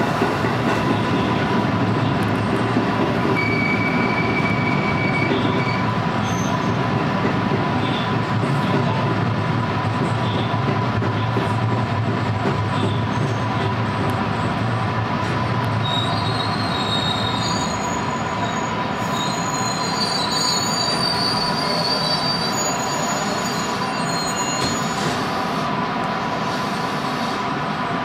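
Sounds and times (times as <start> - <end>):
train wheels squealing on rails: 0.0 - 9.1, 9.8 - 11.6, 12.4 - 14.6, 15.2 - 27.6
train rumble and hum: 0.0 - 28.0.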